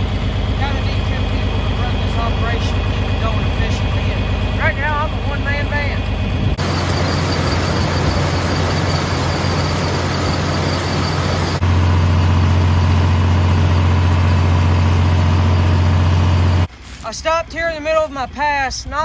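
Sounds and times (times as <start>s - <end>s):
tractor engine droning: 0.0s - 19.0s.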